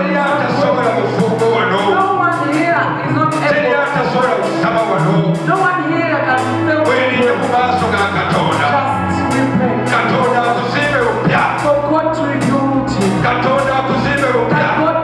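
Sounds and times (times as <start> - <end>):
people singing: 0.0 - 15.0
worship band playing: 0.0 - 15.0.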